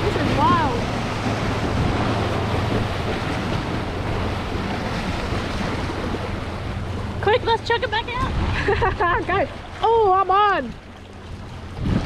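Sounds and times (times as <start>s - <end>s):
waves washing against rock wall: 0.0s - 12.0s
wind rumbling on microphone: 0.0s - 12.0s.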